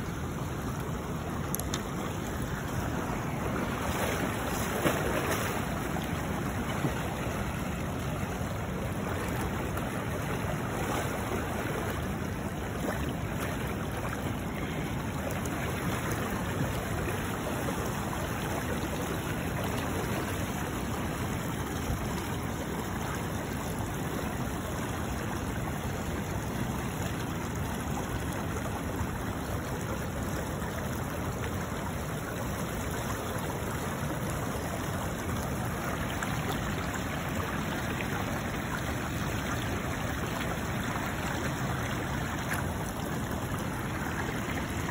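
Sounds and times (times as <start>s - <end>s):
fast river current rushing: 0.0s - 44.9s.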